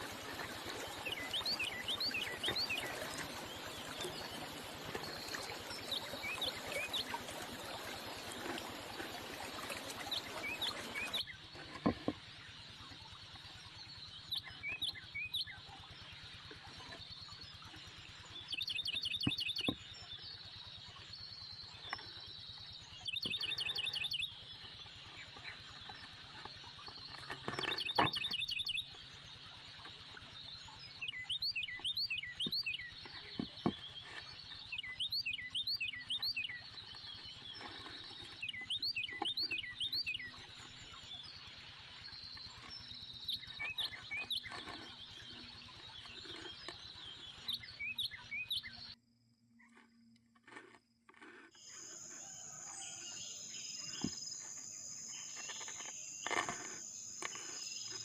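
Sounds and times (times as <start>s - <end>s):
small birds trilling and chirping: 0.0s - 50.6s, 51.5s - 58.0s.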